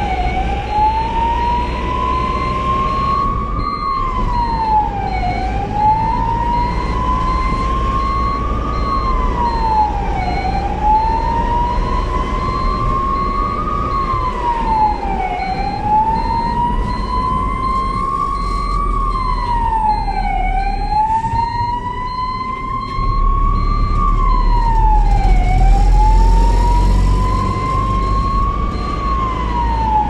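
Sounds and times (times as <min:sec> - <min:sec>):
ambulance siren wailing: 0:00.0 - 0:30.0
low vehicle rumble: 0:00.0 - 0:30.0.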